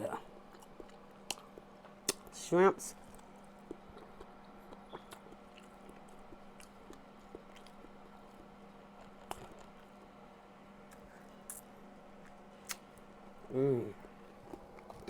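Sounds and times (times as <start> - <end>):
steady low hum: 0.0 - 15.0
chewing and mouth sounds: 0.1 - 10.2, 10.8 - 15.0.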